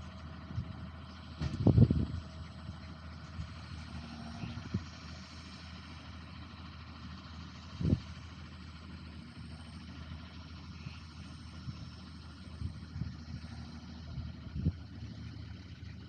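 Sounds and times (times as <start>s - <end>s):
farm machine engine humming: 0.0s - 16.0s.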